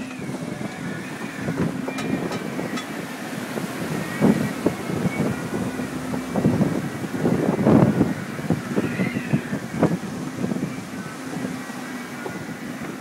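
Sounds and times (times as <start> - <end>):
rough seas against hull: 0.0 - 13.0
wind buffeting microphone: 0.0 - 13.0.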